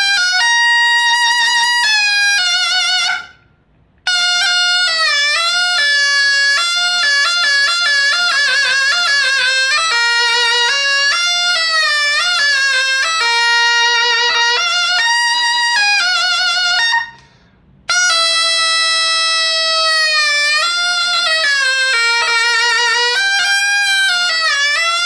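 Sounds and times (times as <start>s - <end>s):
shawm playing solo melody: 0.0s - 3.4s, 4.0s - 17.2s, 17.8s - 25.0s.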